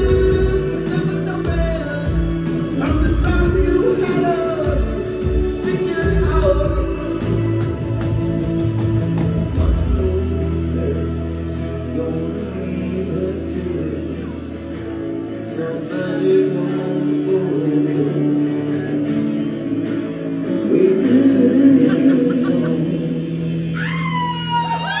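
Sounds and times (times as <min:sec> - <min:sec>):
strummed acoustic guitar: 0:00.0 - 0:23.8
bass: 0:00.0 - 0:25.0
man singing: 0:00.0 - 0:25.0.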